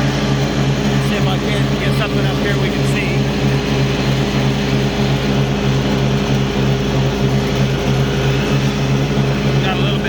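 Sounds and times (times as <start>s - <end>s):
mower blades spinning: 0.0s - 10.0s
mower engine at high throttle: 0.0s - 10.0s.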